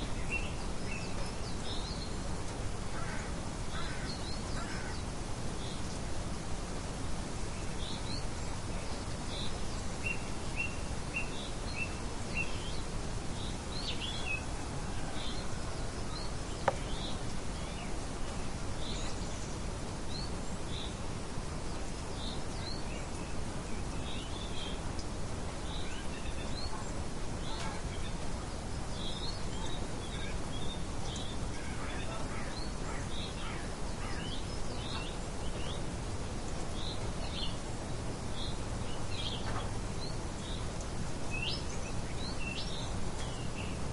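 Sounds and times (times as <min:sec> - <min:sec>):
birds chirping: 0:00.0 - 0:43.9
outdoor background hiss: 0:00.0 - 0:43.9.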